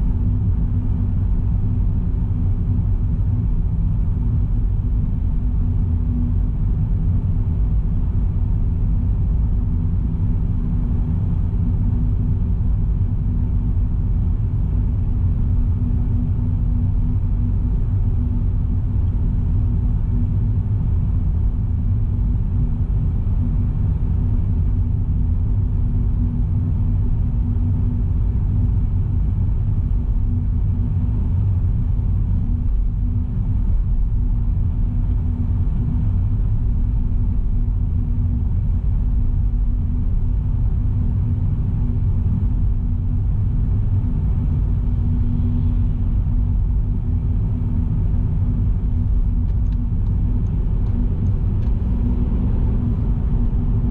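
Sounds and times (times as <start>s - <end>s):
car engine and road noise: 0.0s - 53.9s
constant hum: 0.0s - 53.9s.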